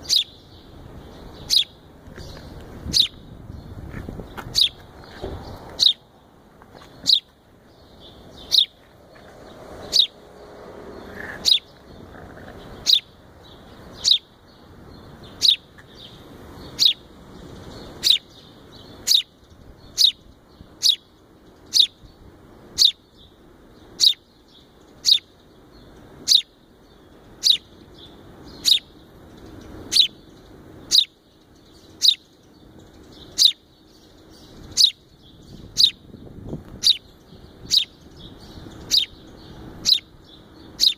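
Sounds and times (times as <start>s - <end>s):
sparrow chirping: 0.0s - 40.9s.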